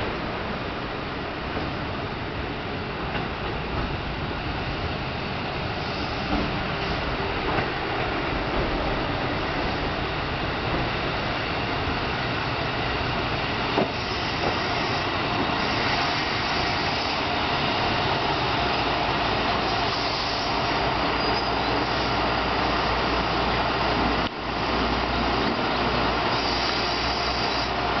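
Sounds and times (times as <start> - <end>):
diesel railcar engine running: 0.0 - 28.0.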